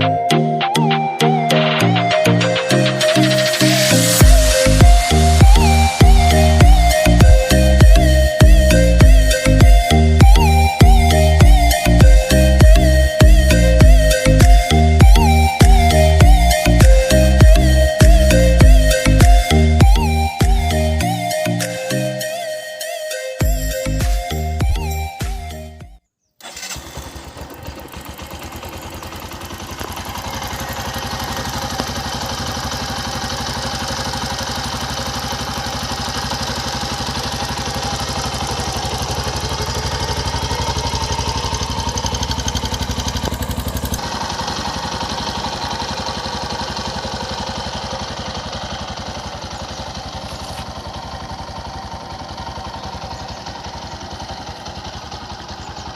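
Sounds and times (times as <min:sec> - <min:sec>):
motorcycle engine idling: 0:02.0 - 0:22.1, 0:23.4 - 0:25.8, 0:26.4 - 0:55.9.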